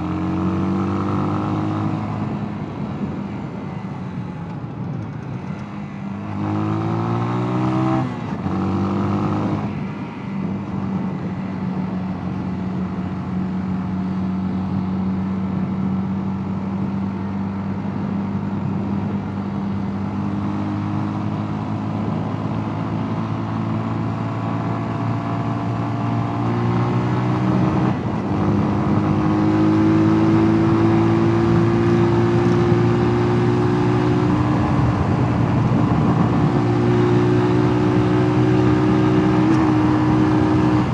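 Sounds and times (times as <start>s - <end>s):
motorcycle engine accelerating: 0.0s - 9.9s, 10.6s - 40.9s.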